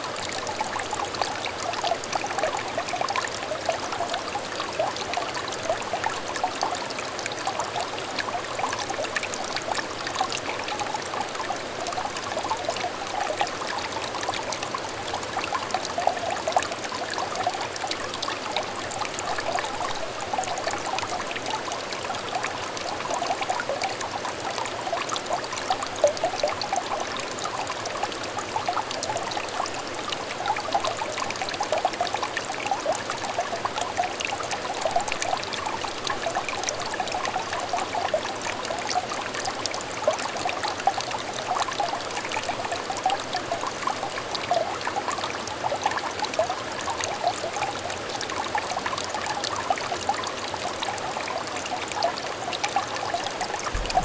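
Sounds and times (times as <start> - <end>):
stream water burbling: 0.0 - 54.0.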